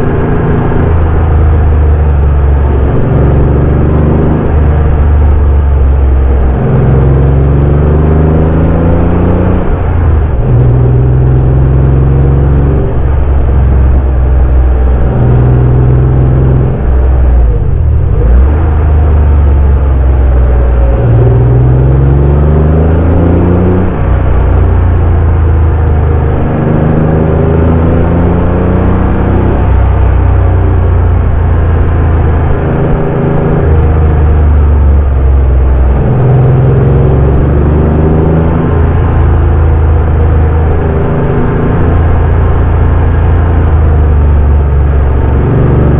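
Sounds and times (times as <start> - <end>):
car engine accelerating through gears: 0.0 - 45.9.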